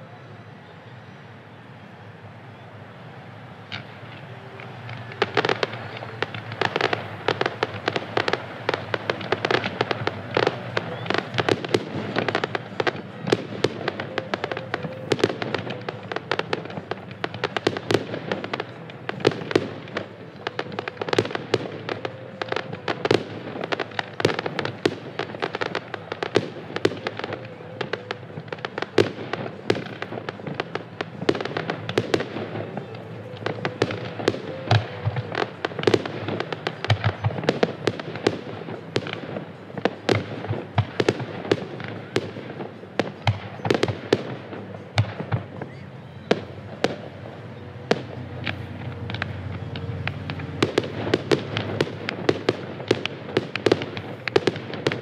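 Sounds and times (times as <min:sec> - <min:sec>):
fireworks bangs: 0:01.8 - 0:55.0.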